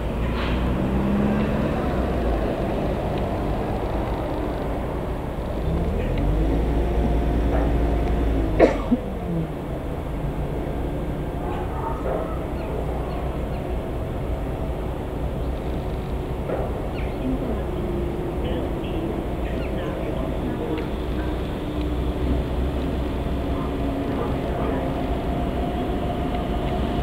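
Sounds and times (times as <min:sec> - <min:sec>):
train passing with low rumble: 0:00.0 - 0:27.0.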